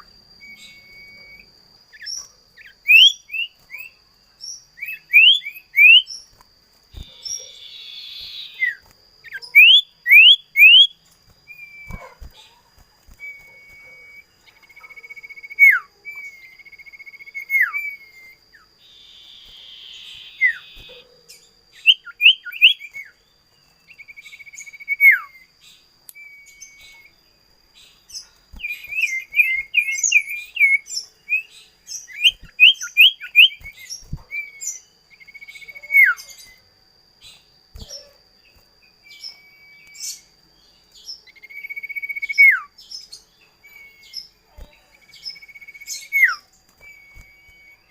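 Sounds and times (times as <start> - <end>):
songbird whistled song: 0.0 - 47.9.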